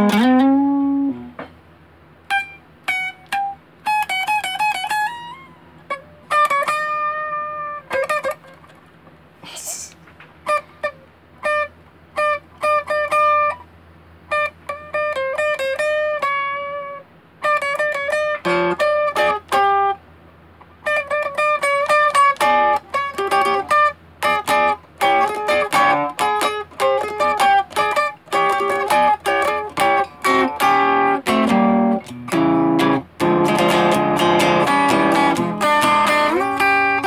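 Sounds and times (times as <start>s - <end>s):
electric guitar picked notes: 0.0s - 1.6s, 2.2s - 8.8s, 10.4s - 13.7s, 14.3s - 20.0s, 20.6s - 37.0s.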